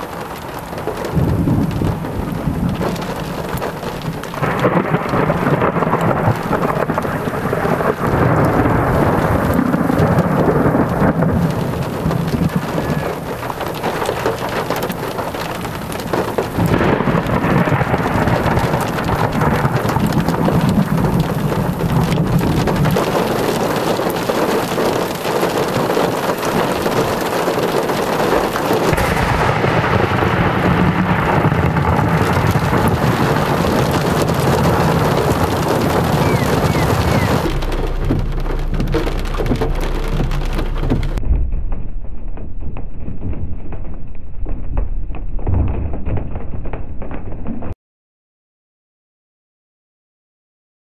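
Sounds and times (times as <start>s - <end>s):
steady rain: 0.0s - 41.2s
thunder rumbling: 0.0s - 47.8s.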